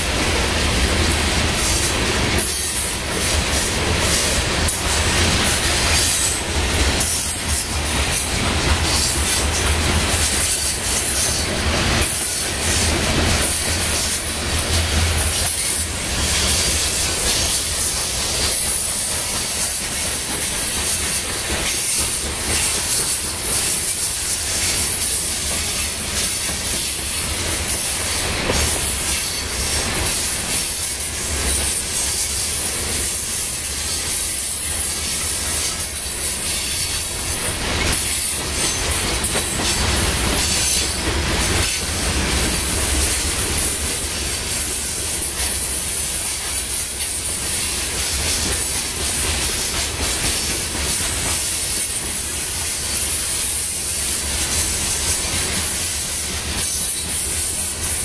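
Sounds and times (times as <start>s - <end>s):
steel wheels on rails: 0.0s - 58.0s.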